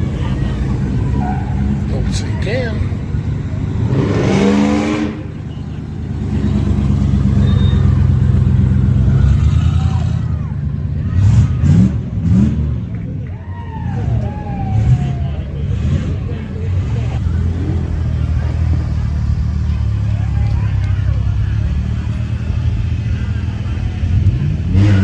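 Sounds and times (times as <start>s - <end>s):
car engine revving: 0.0s - 13.1s, 13.9s - 25.0s.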